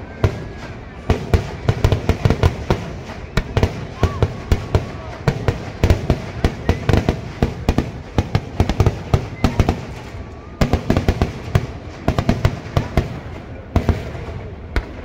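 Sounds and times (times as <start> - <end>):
firecracker bangs: 0.0 - 15.0.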